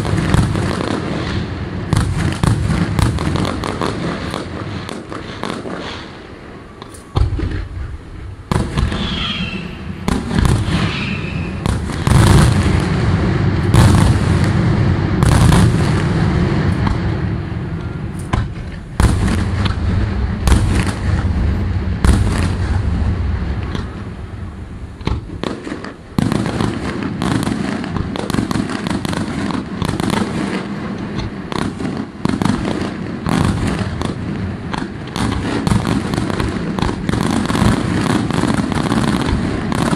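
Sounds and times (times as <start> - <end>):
continuous rumble: 0.0 - 39.9
fireworks bangs and crackling: 0.0 - 39.9.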